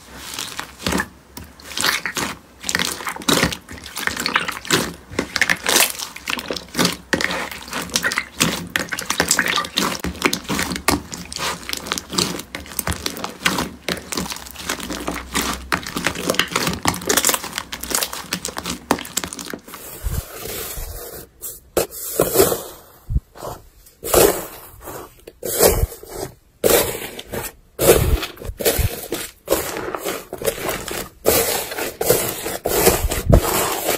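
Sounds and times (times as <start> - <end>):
foam bead slime crackling: 0.0 - 21.3, 24.0 - 33.9
slime squelching: 0.0 - 33.9.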